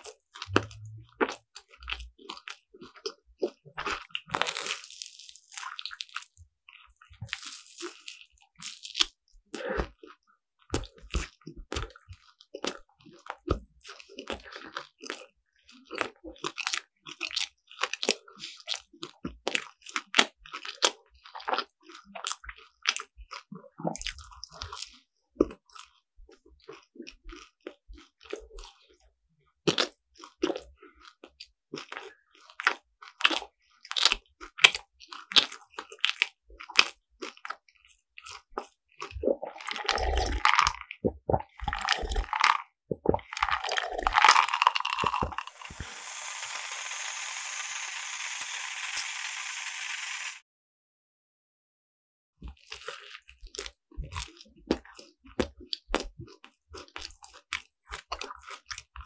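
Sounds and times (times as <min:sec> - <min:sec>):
crunching and chewing food: 0:00.0 - 0:45.9, 0:52.4 - 0:59.0.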